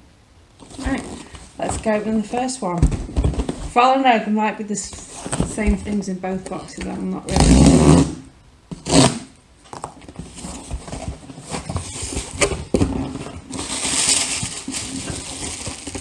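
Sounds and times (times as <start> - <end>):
rustling: 0.5 - 3.8, 4.8 - 16.0.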